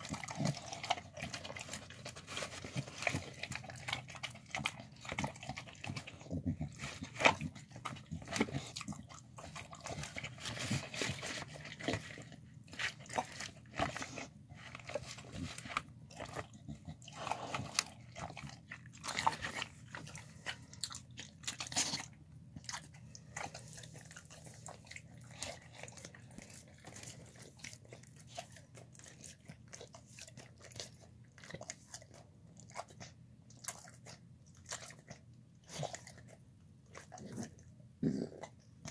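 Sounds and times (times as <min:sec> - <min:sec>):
dogs chewing wet food: 0:00.0 - 0:38.9.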